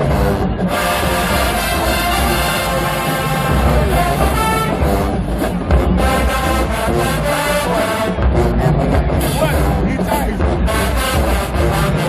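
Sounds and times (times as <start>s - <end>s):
heavy low drums: 0.0s - 12.0s
marching band playing: 0.0s - 12.0s.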